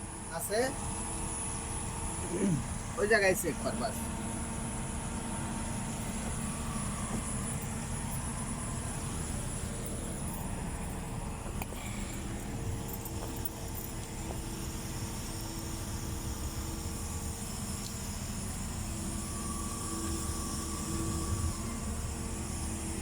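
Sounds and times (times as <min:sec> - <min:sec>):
low machine rumble with hum: 0:00.0 - 0:23.0.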